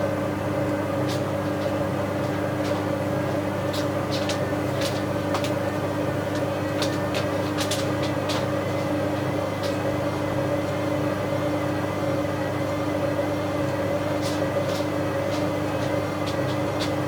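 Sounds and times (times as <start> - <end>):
washing machine motor and drum hum: 0.0 - 17.0.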